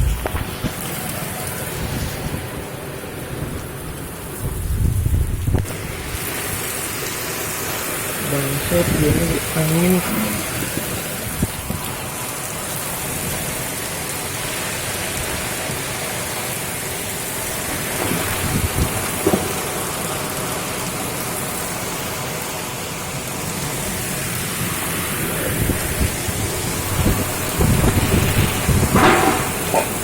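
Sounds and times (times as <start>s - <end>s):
heavy rain in strong wind: 0.0s - 30.0s.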